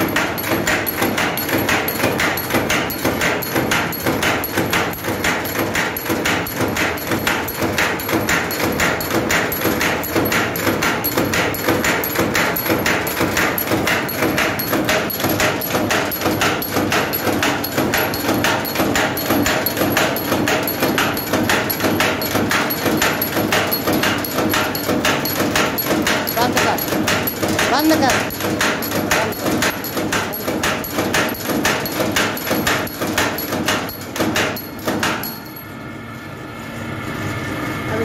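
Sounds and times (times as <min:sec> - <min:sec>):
wire cutting machine clattering: 0:00.0 - 0:35.8.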